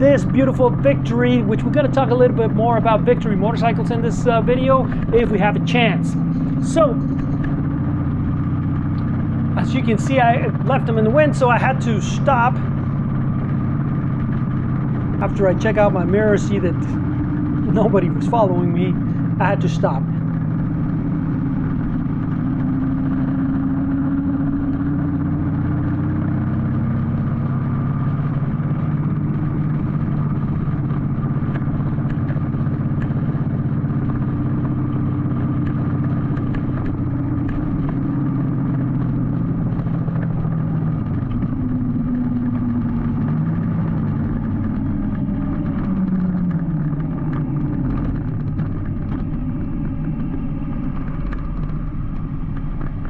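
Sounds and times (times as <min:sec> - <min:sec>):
motorcycle engine running low revs: 0:00.0 - 0:53.0.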